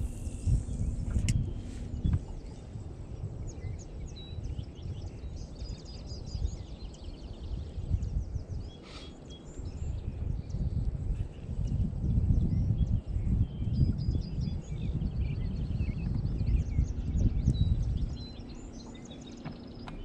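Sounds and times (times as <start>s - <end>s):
low uneven rumble: 0.0s - 6.6s, 9.7s - 20.0s
small birds chirping: 0.0s - 20.0s.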